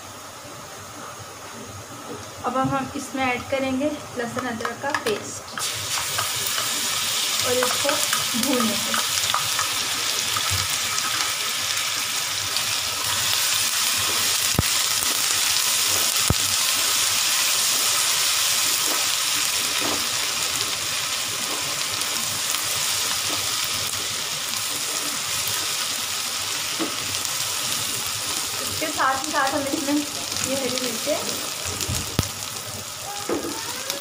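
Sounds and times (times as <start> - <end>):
paste and onions sizzling in oil: 1.1 - 34.0.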